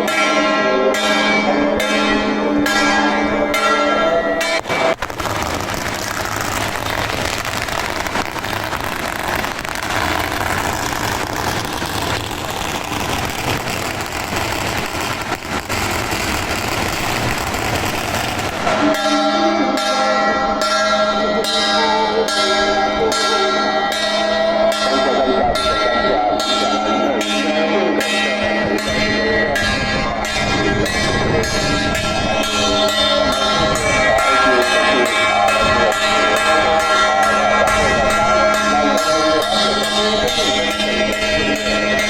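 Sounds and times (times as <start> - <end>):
dense noisy din: 0.0 - 42.0.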